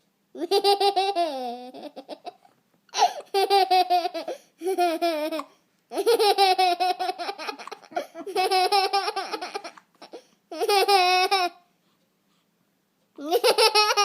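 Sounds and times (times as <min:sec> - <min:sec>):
baby laughing hard: 0:00.4 - 0:02.4, 0:03.0 - 0:11.6, 0:13.2 - 0:14.0.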